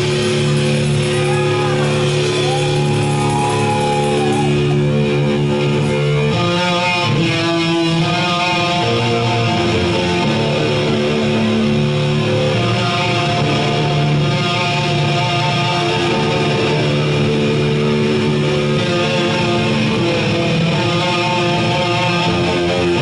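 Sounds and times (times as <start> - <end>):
distorted electric guitar riffing: 0.0 - 23.0.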